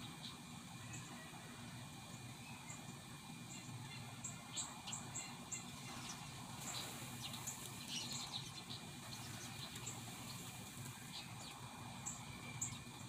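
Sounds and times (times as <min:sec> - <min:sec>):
faint steady hum: 0:00.0 - 0:13.0
small birds chirping: 0:00.0 - 0:13.0.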